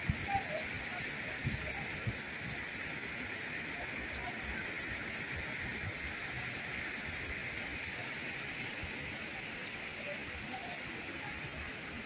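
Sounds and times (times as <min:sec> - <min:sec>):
water falling down fountain: 0:00.0 - 0:12.0.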